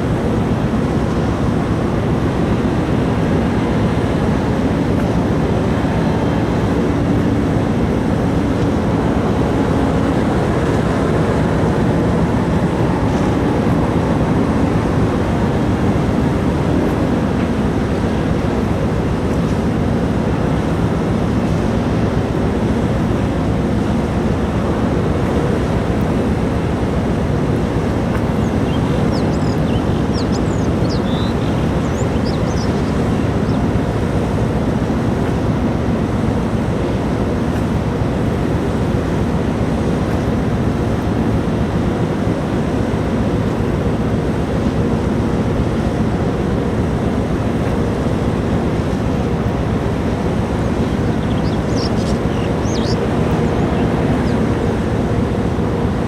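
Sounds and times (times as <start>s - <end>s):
ferry engines rumbling: 0.0s - 56.0s
water noise: 0.0s - 56.0s
wind: 0.0s - 56.0s.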